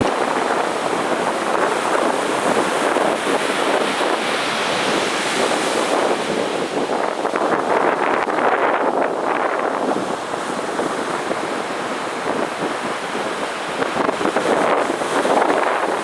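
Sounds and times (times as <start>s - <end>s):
surf waves breaking on beach: 0.0s - 16.0s.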